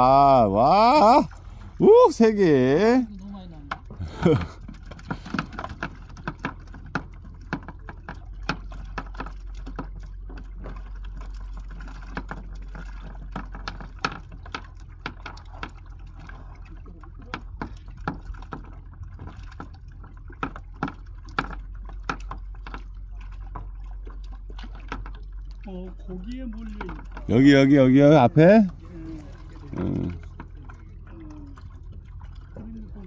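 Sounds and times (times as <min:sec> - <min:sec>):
fish knocking and slapping: 0:00.0 - 0:33.0
low steady hum: 0:00.0 - 0:33.0
water splashing and sloshing: 0:00.0 - 0:33.0.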